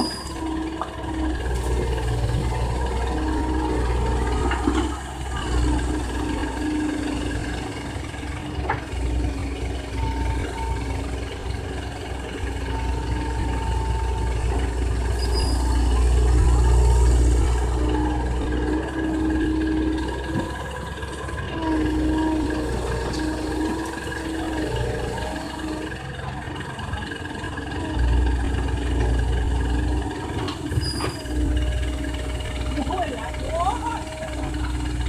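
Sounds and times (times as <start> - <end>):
excavator diesel engine running: 0.0 - 35.0
whine: 0.0 - 35.0.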